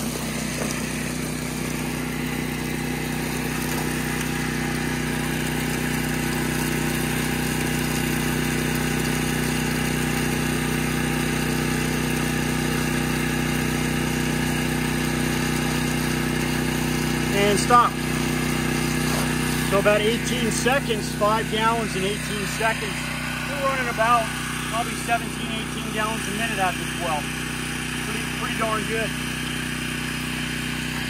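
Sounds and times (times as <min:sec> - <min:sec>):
generator engine running: 0:00.0 - 0:31.0
hose splashing into plastic bucket: 0:00.0 - 0:31.0.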